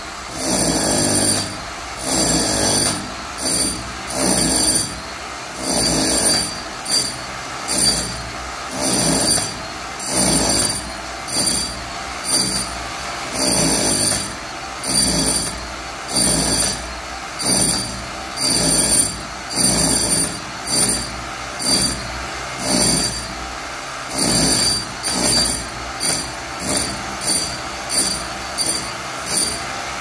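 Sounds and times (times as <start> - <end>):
demolition hammer chiselling concrete: 0.0 - 30.0.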